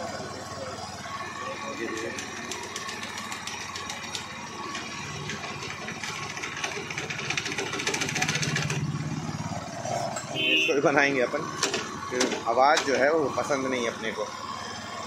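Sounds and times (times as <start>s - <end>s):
scooter engine rattling and revving: 0.0s - 10.4s, 11.0s - 15.0s.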